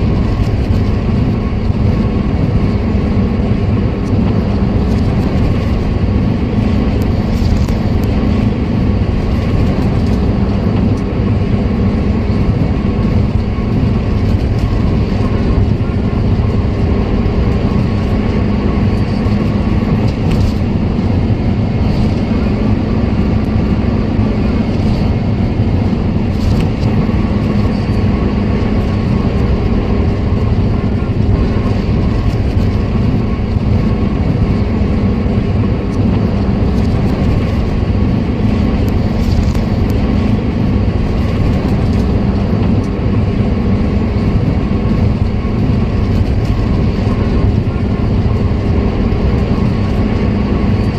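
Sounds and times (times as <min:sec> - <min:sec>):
car engine and road rumble: 0:00.0 - 0:50.9.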